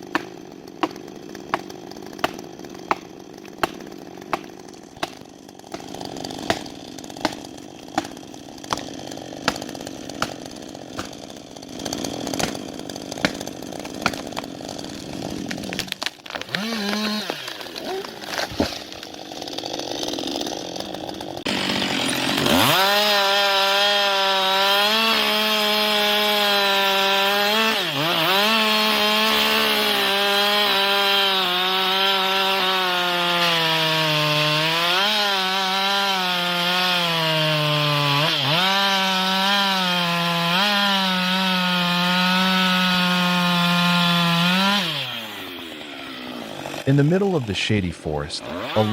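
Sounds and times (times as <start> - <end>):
chainsaw revving and cutting: 0.0 - 48.9.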